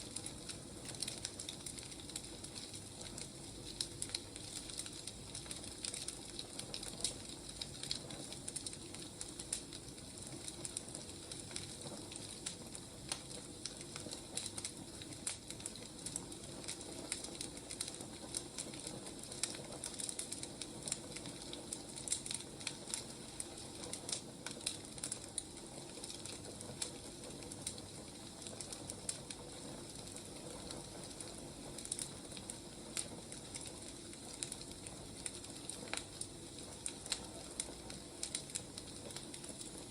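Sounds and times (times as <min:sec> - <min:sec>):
fire hissing softly: 0:00.0 - 0:39.9
wood fire crackling and popping: 0:00.0 - 0:39.9.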